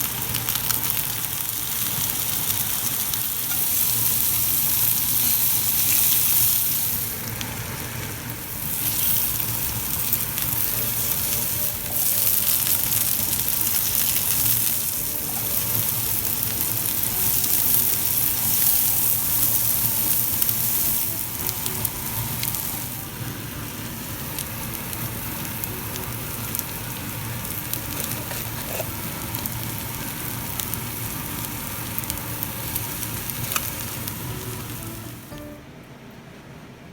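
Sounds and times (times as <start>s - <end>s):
food sizzling in a hot pan: 0.0s - 35.5s.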